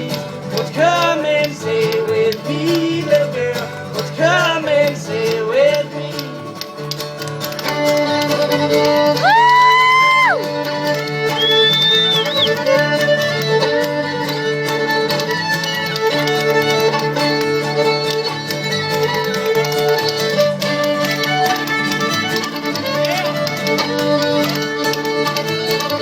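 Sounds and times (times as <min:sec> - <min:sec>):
bowed fiddle melody: 0:00.0 - 0:26.0
strummed acoustic guitar: 0:00.0 - 0:26.0.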